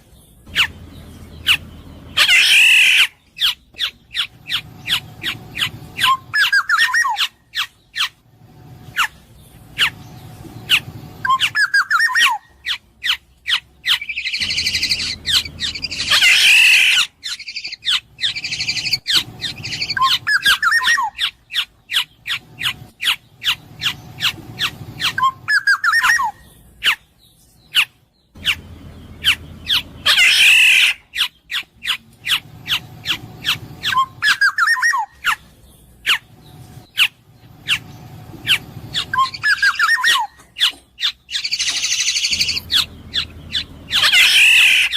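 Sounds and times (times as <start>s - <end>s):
bird whistling and squawking: 0.5s - 8.2s, 8.8s - 28.6s, 29.2s - 44.9s.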